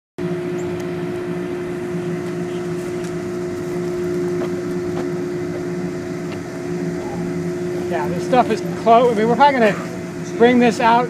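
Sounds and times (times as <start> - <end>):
low pulsing rumble: 0.2 - 11.0
machine humming: 0.2 - 11.0.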